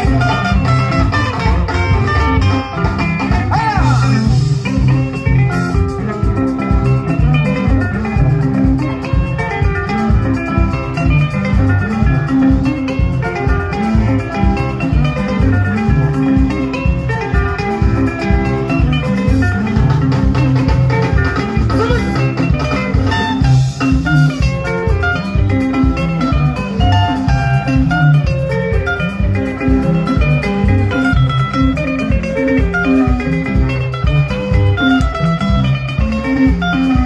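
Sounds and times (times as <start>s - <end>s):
bass and drum beat: 0.0s - 37.0s
electric guitar lines: 0.0s - 37.0s.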